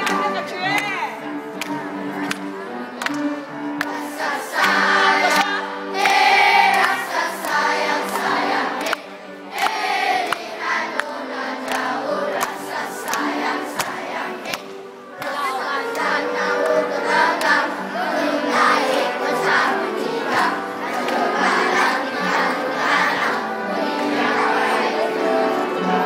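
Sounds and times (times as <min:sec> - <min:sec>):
children's choir singing: 0:01.2 - 0:26.0.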